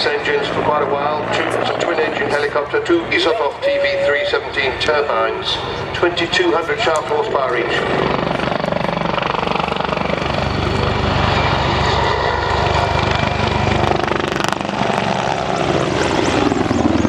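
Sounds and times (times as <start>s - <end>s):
helicopter rotor beating: 0.0s - 17.0s
turbine engines whining: 0.0s - 17.0s.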